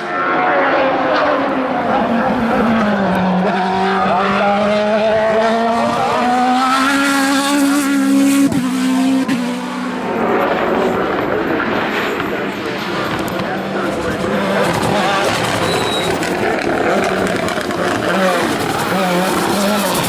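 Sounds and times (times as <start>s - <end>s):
race car engine at high revs: 0.0s - 20.0s.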